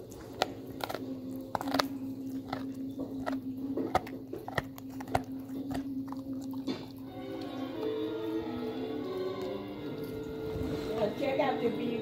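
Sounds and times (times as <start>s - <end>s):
dog gnawing a bone: 0.0s - 10.9s.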